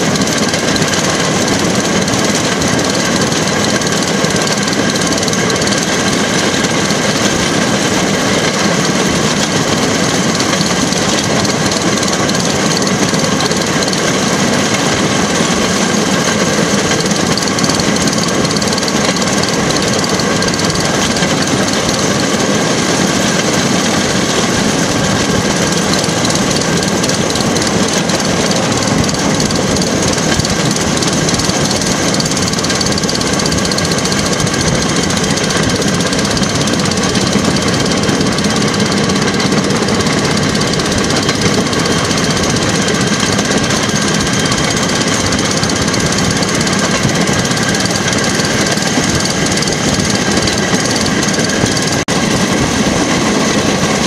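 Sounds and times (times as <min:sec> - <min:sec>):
rail car engine running: 0:00.0 - 0:54.0.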